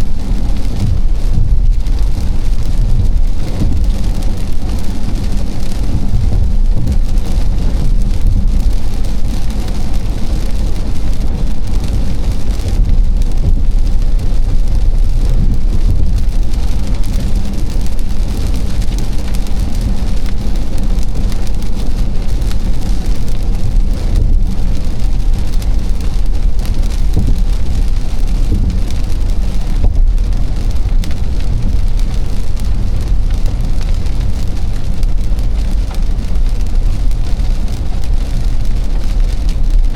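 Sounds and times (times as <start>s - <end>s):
rain hissing: 0.0s - 39.9s
road rumble: 0.0s - 39.9s.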